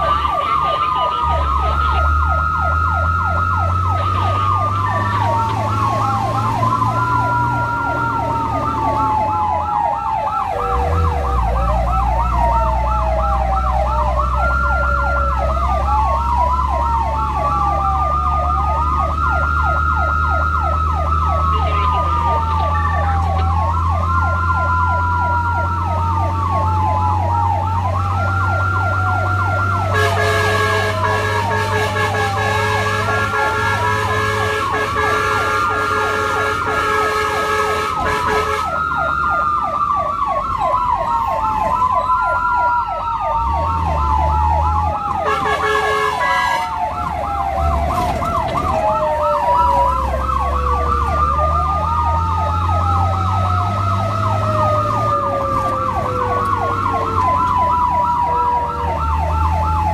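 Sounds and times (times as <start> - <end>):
engine rumble: 0.0 - 59.9
siren wail: 0.0 - 59.9
siren yelp: 0.0 - 59.9.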